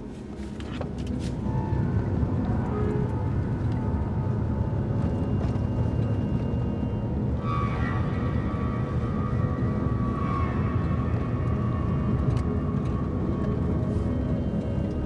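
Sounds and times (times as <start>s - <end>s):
faint music: 0.0s - 15.0s
vehicle rumbling: 0.0s - 15.0s.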